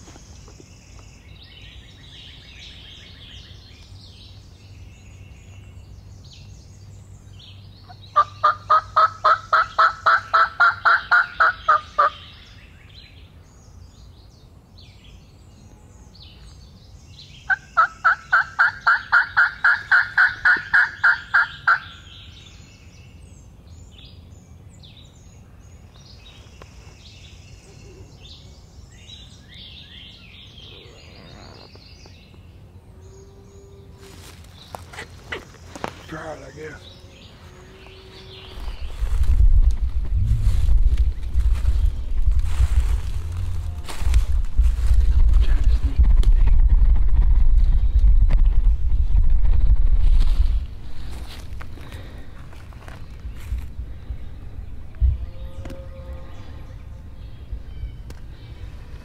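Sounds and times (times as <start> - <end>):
faint songbirds singing: 0.0 - 59.0.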